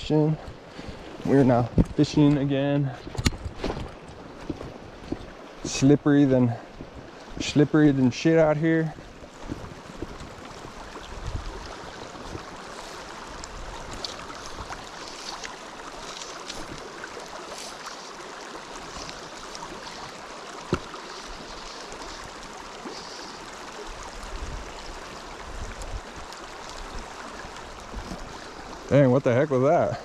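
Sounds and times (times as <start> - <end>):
creek running over rocks: 0.0 - 30.0.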